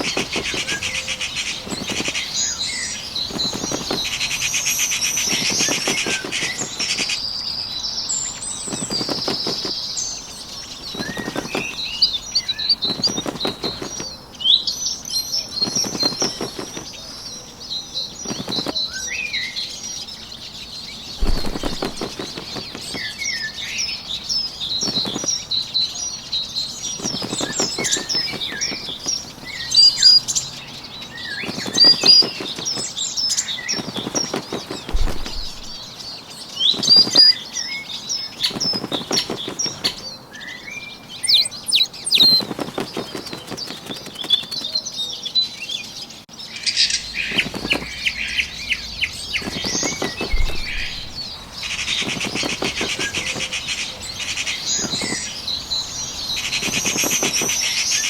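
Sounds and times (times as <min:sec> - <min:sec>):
wings flapping: 0:00.0 - 0:07.3, 0:08.3 - 0:14.2, 0:15.3 - 0:17.3, 0:18.2 - 0:19.1, 0:20.5 - 0:25.6, 0:26.8 - 0:36.1, 0:36.7 - 0:40.1, 0:41.2 - 0:44.8, 0:47.2 - 0:58.0
bird chirps and trills: 0:00.0 - 0:58.0.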